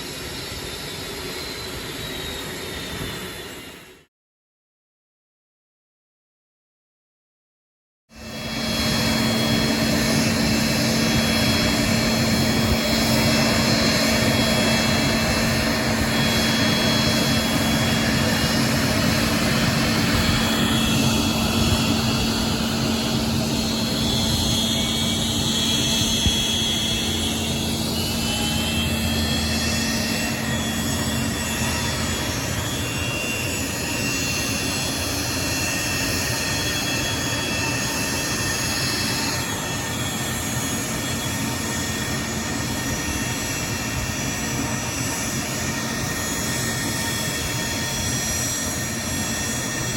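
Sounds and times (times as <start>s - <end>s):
jet engines roaring with high whine: 0.0s - 4.1s, 8.1s - 49.9s.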